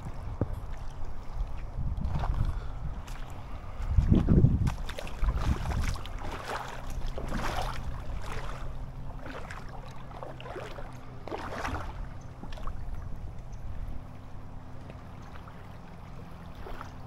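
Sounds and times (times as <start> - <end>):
boat engine running: 0.0 - 17.0
water splashing against hull: 0.0 - 17.0.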